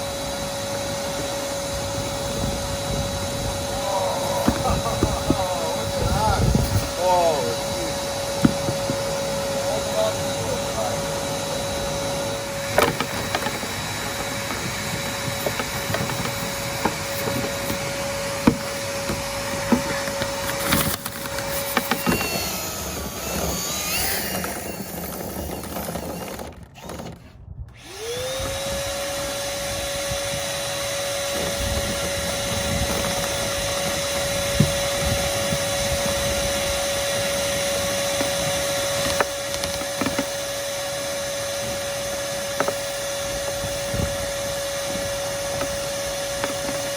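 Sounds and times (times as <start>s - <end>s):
vacuum cleaner motor whining: 0.0s - 46.9s
brush rods scraping in duct: 0.8s - 27.4s, 31.2s - 46.9s.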